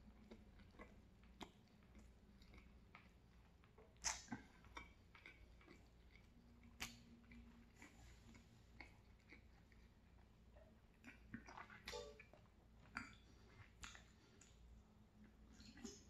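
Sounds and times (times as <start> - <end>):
chewing food: 0.0 - 16.0
wet mouth clicks: 0.1 - 10.2, 10.9 - 14.6.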